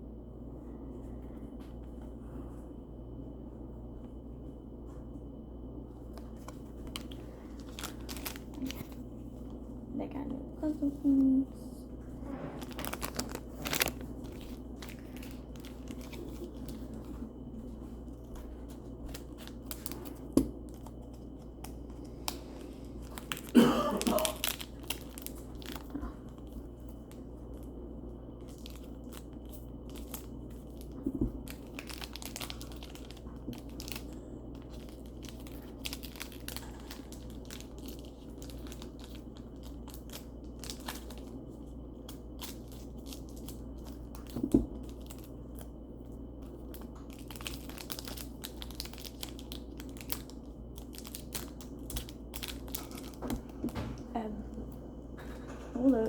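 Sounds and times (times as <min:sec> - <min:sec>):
packaging rustling and crinkling: 0:06.0 - 0:09.7, 0:12.0 - 0:54.0.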